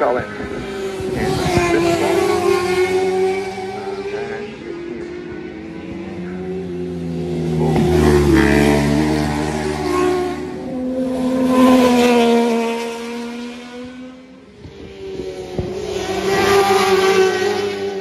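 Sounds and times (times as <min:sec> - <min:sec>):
racing motorcycles passing at speed: 0:00.0 - 0:18.0.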